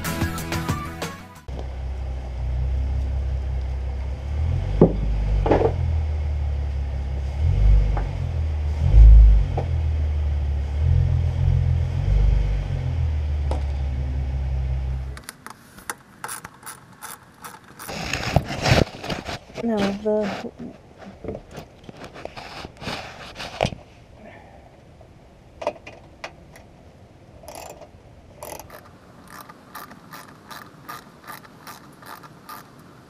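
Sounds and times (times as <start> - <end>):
car engine rumbling: 1.4 - 21.9, 25.0 - 33.0.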